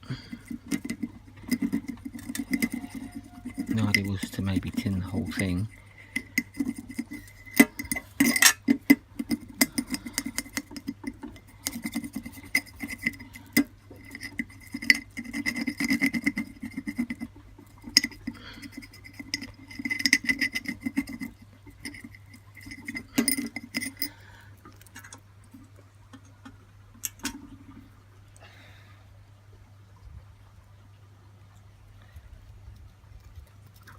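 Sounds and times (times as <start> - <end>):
small metal clinks and scraping: 0.0 - 27.6
steady low hum: 0.0 - 33.8.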